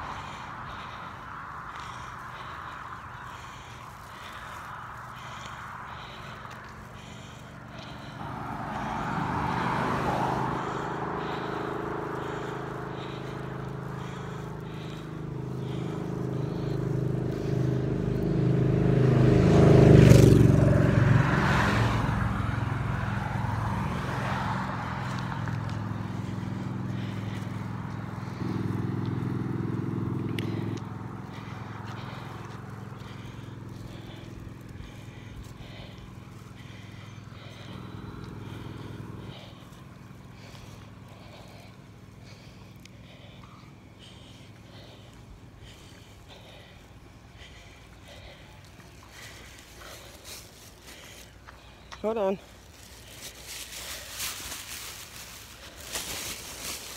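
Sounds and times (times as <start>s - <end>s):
vehicle engine passing: 0.0s - 56.9s.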